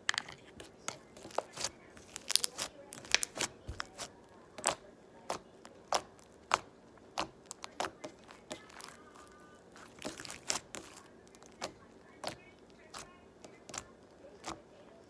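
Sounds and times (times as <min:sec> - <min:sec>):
slime popping and crackling: 0:00.6 - 0:14.7.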